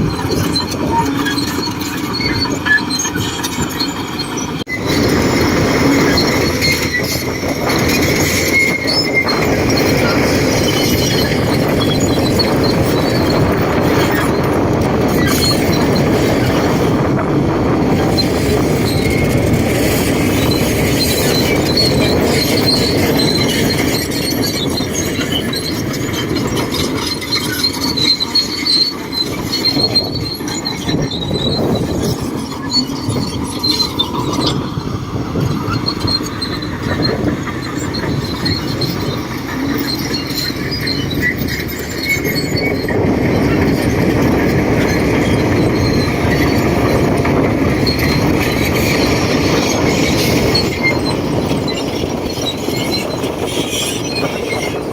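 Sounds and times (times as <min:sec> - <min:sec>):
diesel engine under load: 0:00.0 - 0:54.9
high squeal: 0:00.0 - 0:54.9
steel tracks clanking: 0:00.0 - 0:54.9.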